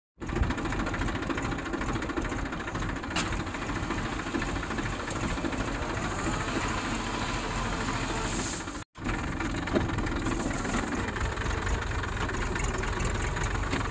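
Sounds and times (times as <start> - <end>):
tractor diesel engine running: 0.2 - 13.9.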